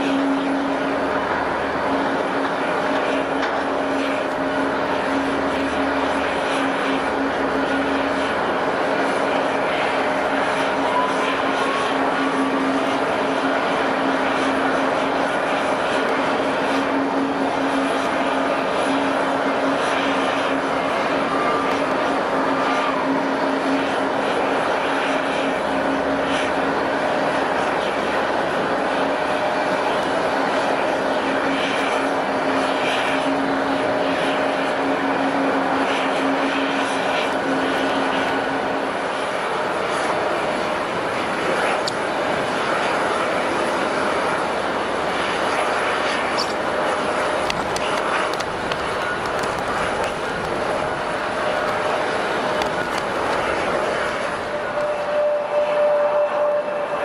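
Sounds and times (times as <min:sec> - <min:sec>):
airliner engines running: 0:00.0 - 0:57.0.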